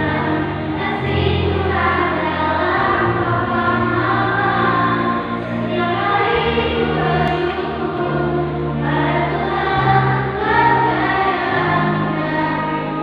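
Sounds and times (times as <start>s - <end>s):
children's choir singing: 0.0s - 13.0s
low held accompaniment notes: 0.0s - 13.0s.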